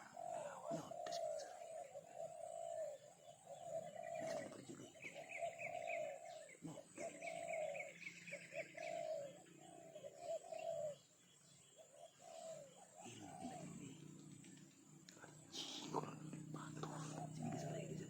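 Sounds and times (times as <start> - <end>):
low cooing bird calls: 0.0 - 18.0.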